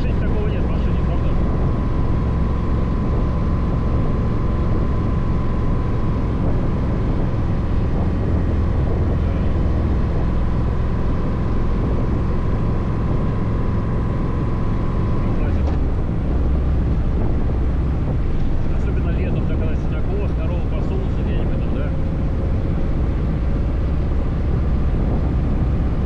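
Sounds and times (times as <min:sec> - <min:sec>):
faint steady whine: 0:00.0 - 0:26.0
motorcycle engine running: 0:00.0 - 0:26.0
wind rushing over microphone: 0:00.0 - 0:26.0.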